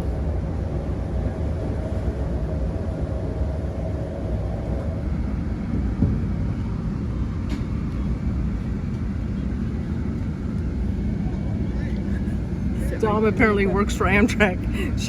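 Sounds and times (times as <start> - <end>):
train idling rumble: 0.0 - 15.0.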